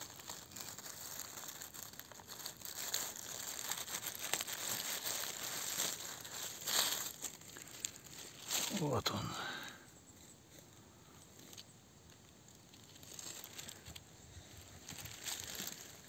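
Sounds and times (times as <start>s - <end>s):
dry leaves rustling and crackling: 0.0s - 10.7s, 11.3s - 16.0s.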